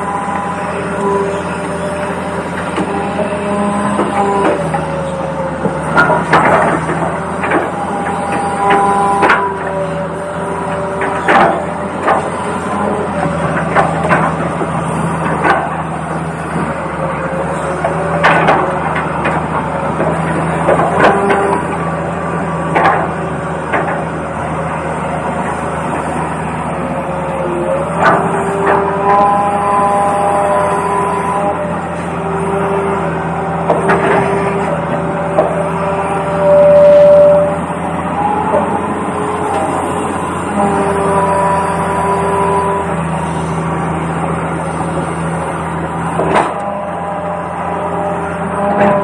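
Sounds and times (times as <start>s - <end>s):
small electric motors whining: 0.0s - 49.0s.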